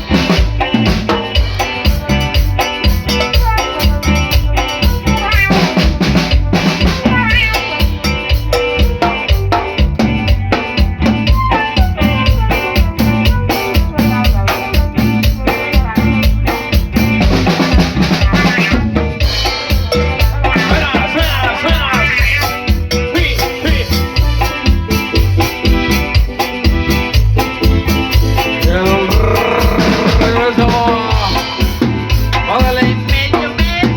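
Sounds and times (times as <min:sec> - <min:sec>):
drum kit groove: 0:00.0 - 0:33.9
pitched instruments playing tune: 0:00.0 - 0:33.9.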